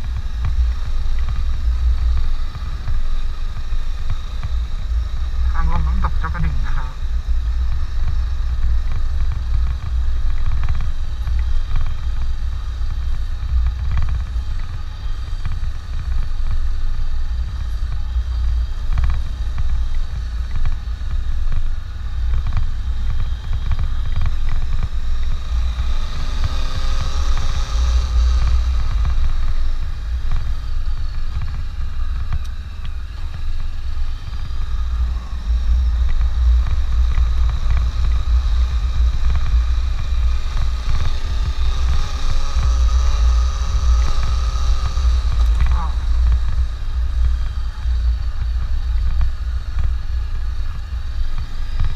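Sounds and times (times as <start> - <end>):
motorcycle engine: 0.0 - 51.9
wind rumble on microphone: 0.0 - 51.9.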